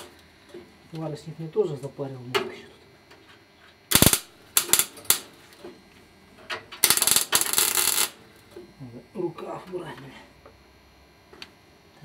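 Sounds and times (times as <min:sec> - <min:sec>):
arc welder crackling: 0:00.0 - 0:11.8.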